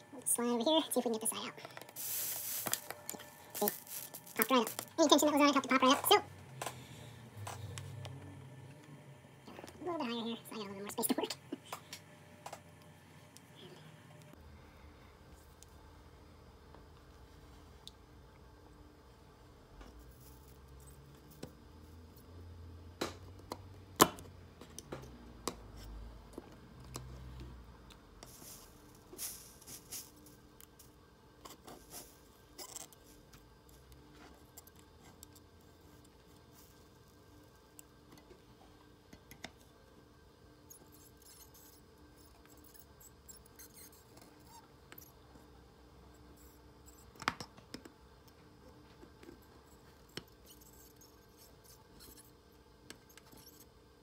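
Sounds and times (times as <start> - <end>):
faint room hum: 0.0 - 54.0.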